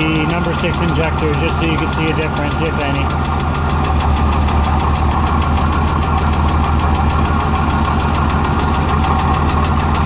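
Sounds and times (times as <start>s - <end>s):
engine idling: 0.0s - 10.0s
rapid valve-train tick: 0.0s - 10.0s.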